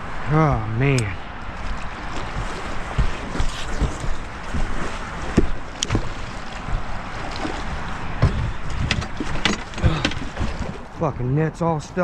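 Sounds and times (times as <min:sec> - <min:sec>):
water noise: 0:00.0 - 0:12.0
wind: 0:00.0 - 0:12.0.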